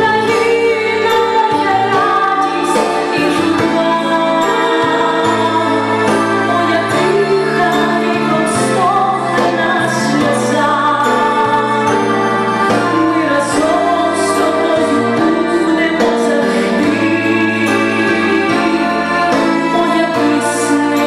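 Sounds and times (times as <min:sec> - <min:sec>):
amplified backing music: 0:00.0 - 0:21.0
woman singing pop song: 0:00.0 - 0:21.0.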